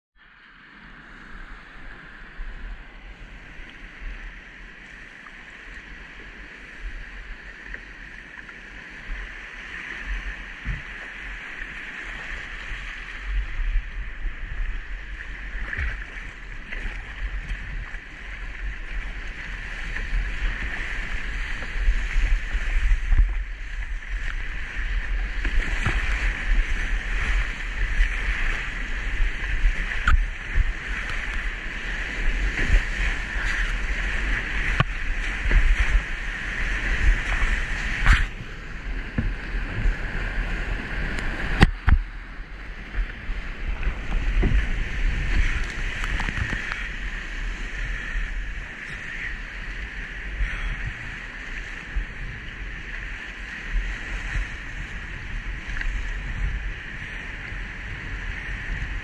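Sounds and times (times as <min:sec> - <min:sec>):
wind rumbling on microphone: 0:00.2 - 0:59.0
paddle blades splashing: 0:01.7 - 0:59.0.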